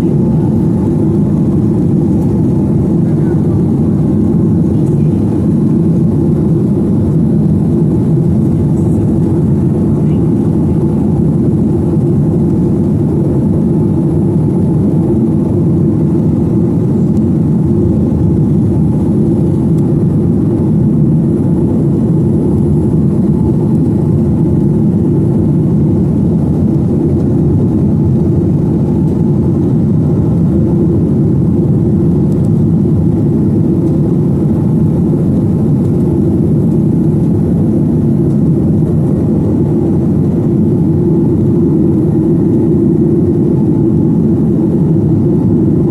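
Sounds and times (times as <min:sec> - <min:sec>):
airplane cabin engine drone: 0:00.0 - 0:45.9.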